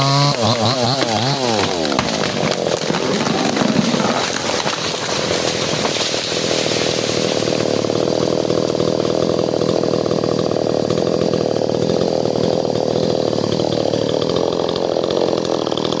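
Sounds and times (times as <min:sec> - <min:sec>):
chainsaw running at high speed: 0:00.0 - 0:16.0.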